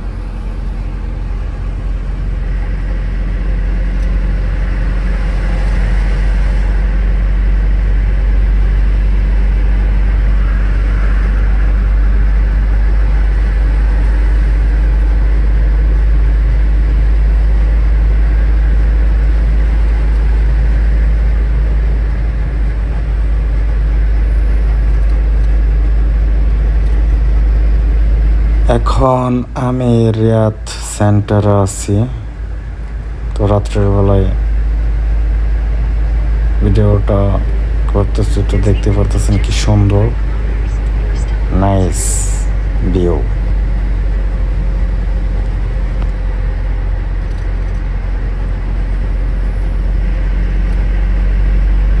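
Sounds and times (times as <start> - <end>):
vehicle road and engine rumble: 0.0 - 52.0.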